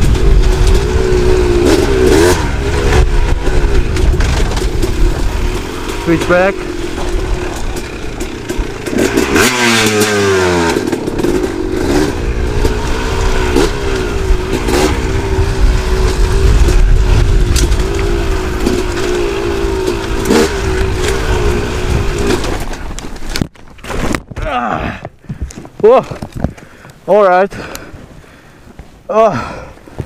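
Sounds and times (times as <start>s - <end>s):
bike knocking and scraping on rocks: 0.0s - 27.8s
dirt bike engine: 0.0s - 29.9s.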